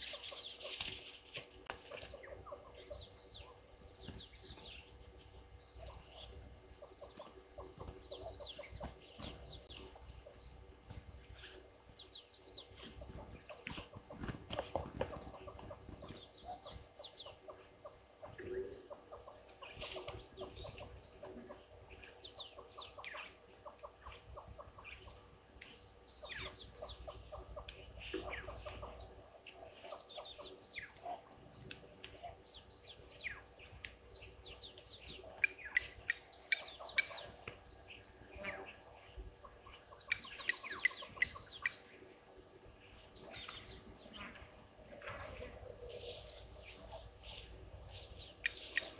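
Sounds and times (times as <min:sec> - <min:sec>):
wild birds calling: 0:00.0 - 0:48.9.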